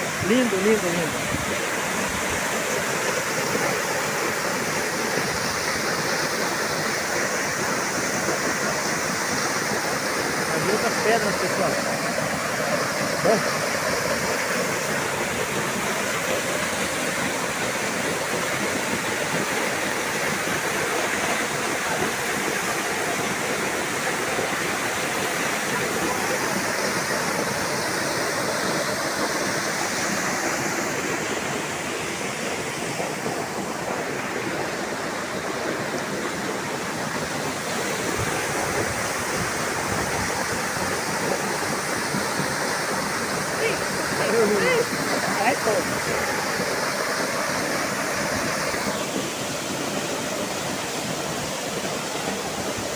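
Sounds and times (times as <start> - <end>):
river and waterfall roar: 0.0 - 52.9.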